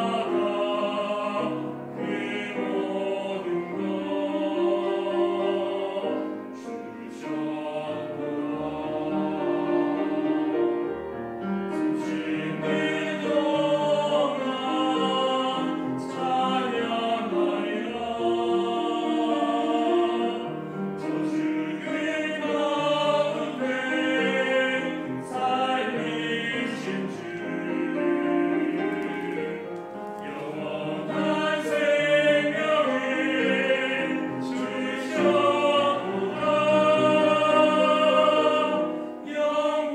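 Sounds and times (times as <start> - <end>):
choir singing an anthem: 0.0 - 39.9
piano and strings: 0.0 - 39.9.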